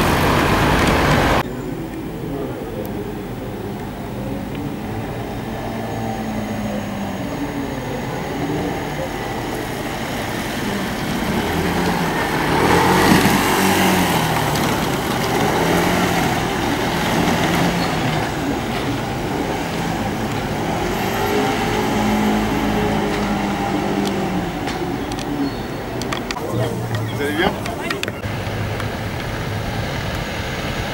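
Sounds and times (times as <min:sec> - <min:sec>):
motorcycle engines passing: 0:00.0 - 0:30.9
traffic rumble: 0:00.0 - 0:30.9.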